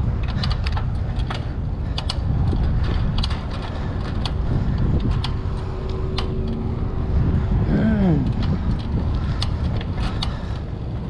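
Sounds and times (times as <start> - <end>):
bicycle road rumble: 0.0 - 11.0
bike rack clicks and rattles: 0.0 - 11.0
wind buffeting microphone: 0.0 - 11.0.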